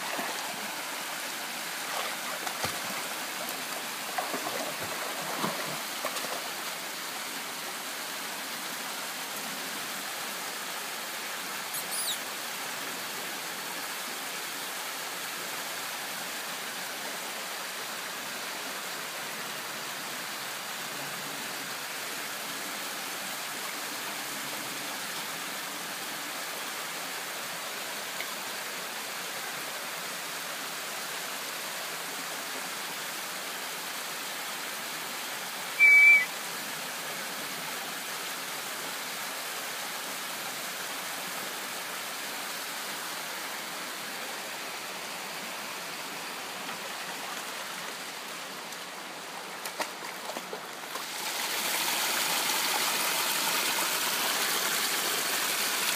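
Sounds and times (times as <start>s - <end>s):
stream running over rocks: 0.0s - 55.9s.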